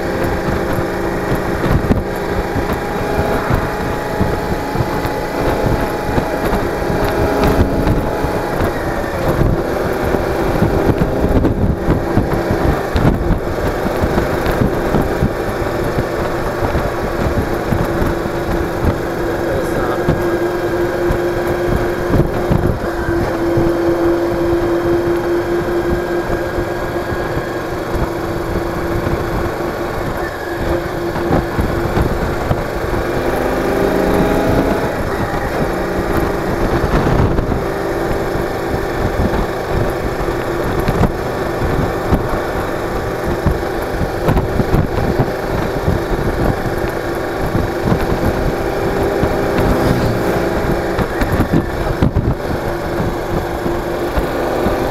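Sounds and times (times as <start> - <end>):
motorcycle engine running: 0.0 - 54.9
road and wind noise: 0.0 - 54.9.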